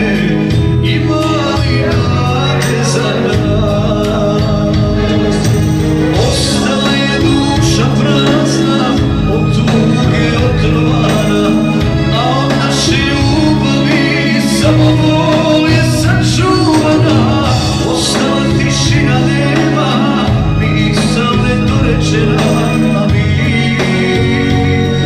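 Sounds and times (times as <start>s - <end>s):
keyboard music: 0.0s - 25.0s
man singing into a microphone: 0.0s - 25.0s.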